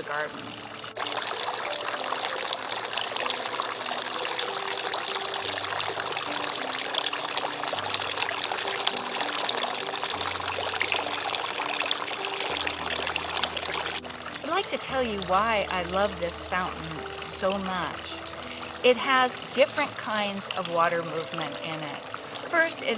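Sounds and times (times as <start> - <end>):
fountain water splashing: 0.0 - 22.9.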